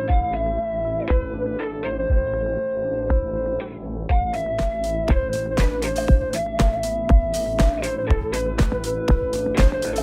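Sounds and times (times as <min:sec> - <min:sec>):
deep kick drum: 0:00.0 - 0:00.4, 0:01.1 - 0:02.4, 0:03.1 - 0:03.4, 0:04.1 - 0:10.0
downtempo electronic music: 0:00.0 - 0:10.0.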